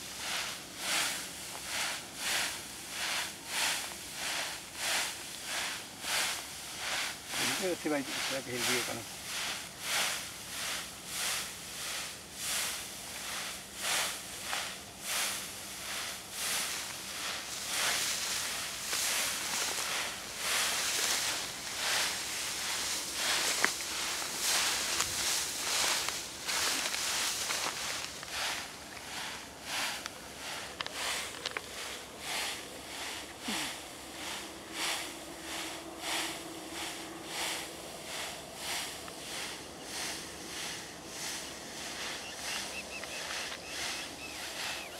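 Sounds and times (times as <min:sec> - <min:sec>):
wheat stalks rustling: 0:00.0 - 0:44.9.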